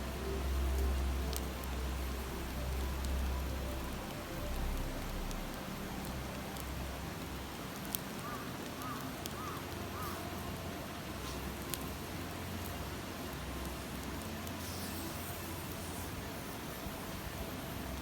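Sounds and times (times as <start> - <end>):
campfire crackling and popping: 0.5 - 16.3.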